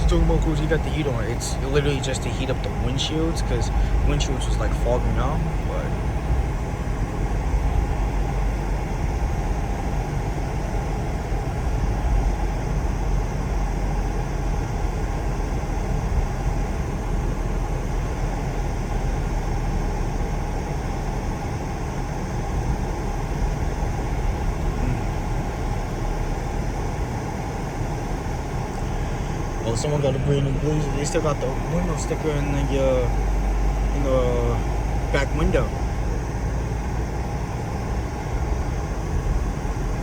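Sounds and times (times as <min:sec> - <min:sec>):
car engine and road rumble: 0:00.0 - 0:40.0
heater blower running: 0:00.0 - 0:40.0.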